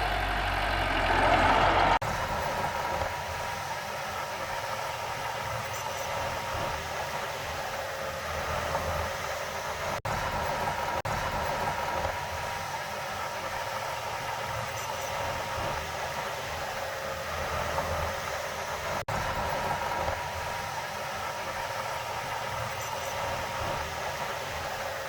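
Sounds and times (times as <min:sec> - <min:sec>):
heavy machinery engine drone: 0:00.0 - 0:25.0
steady whine: 0:00.0 - 0:25.0.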